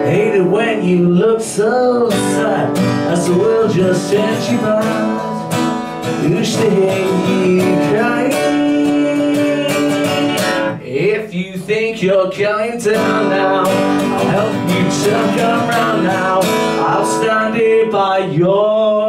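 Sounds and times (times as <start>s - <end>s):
acoustic guitar strumming: 0.0s - 19.0s
man singing: 0.0s - 19.0s.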